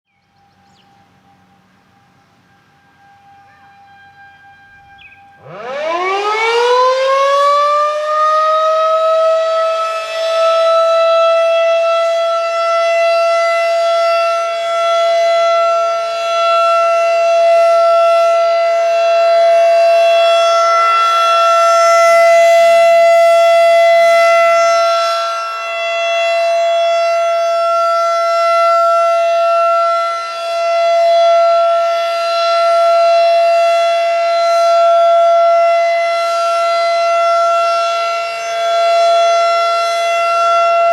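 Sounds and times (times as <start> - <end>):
warning siren wailing: 0.1 - 40.9.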